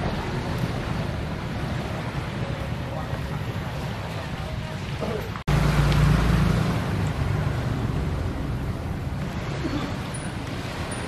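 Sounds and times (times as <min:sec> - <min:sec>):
small waves on shore: 0:00.0 - 0:11.0.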